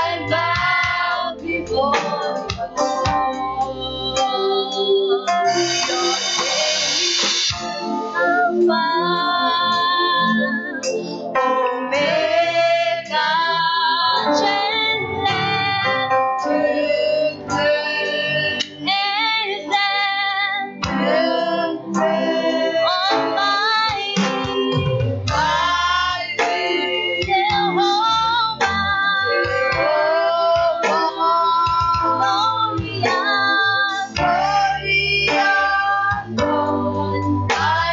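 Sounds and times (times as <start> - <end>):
woman singing: 0.0 - 2.6, 3.6 - 5.6, 8.2 - 10.8, 11.9 - 37.9
instrumental accompaniment: 0.0 - 37.9.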